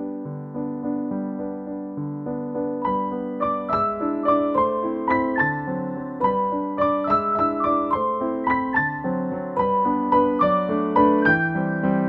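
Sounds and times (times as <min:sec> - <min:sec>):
gentle solo piano melody: 0:00.0 - 0:12.0.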